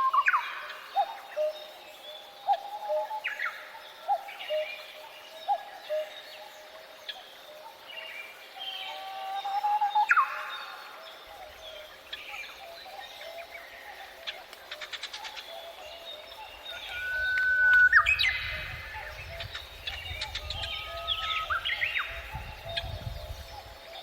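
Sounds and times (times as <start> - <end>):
birds singing: 0.0 - 24.0.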